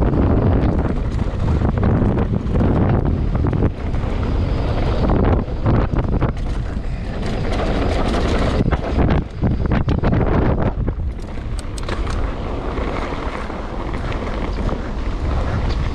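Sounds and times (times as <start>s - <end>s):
tyres rumbling on gravel: 0.0s - 15.9s
wind buffeting microphone: 0.0s - 15.9s.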